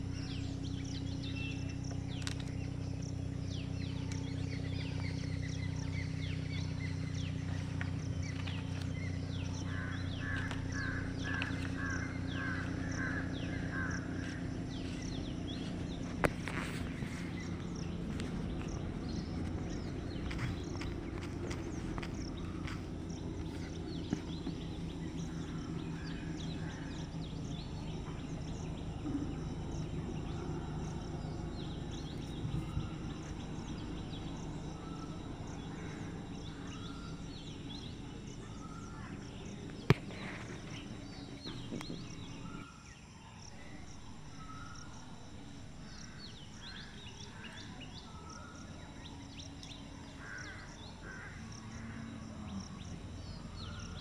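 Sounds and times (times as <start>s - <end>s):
birds chirping and calling: 0.0s - 54.0s
low steady hum: 0.0s - 54.0s.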